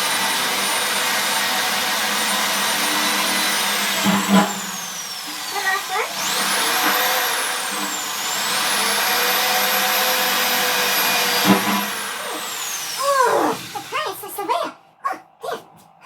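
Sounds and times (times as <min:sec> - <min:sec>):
electric drill whining: 0:00.0 - 0:14.1.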